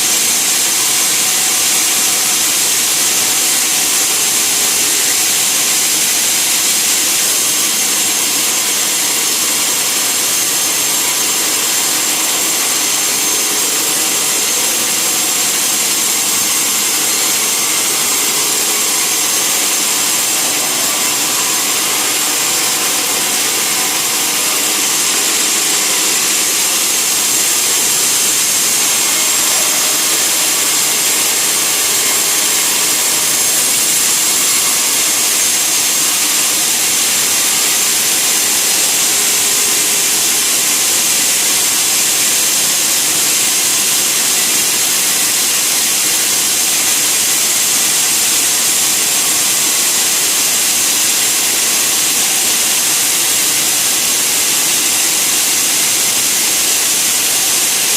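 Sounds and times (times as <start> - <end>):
sawmill saw hissing: 0.0 - 57.9.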